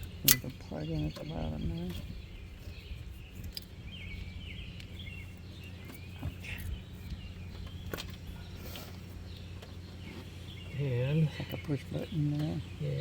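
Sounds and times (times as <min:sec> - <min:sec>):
birds chirping: 0:00.0 - 0:13.0
low hum: 0:00.0 - 0:13.0.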